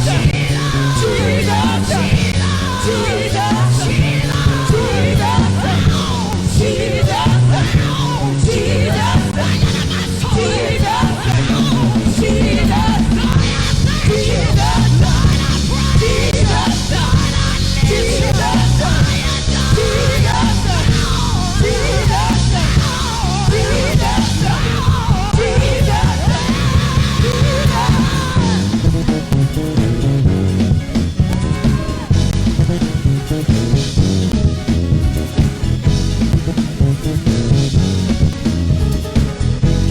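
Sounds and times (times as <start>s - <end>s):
voices singing or shouting: 0.0s - 37.4s
live band playing: 0.0s - 39.9s.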